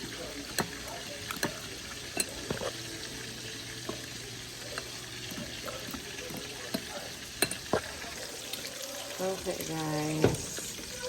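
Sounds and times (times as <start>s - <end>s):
food frying in deep fryer: 0.0s - 11.0s.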